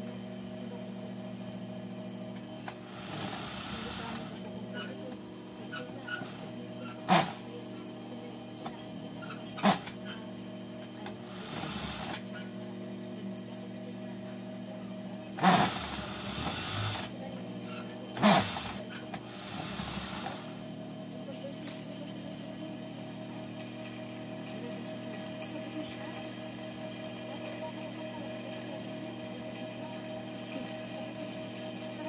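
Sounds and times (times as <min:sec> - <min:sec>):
steady hum: 0:00.0 - 0:28.7.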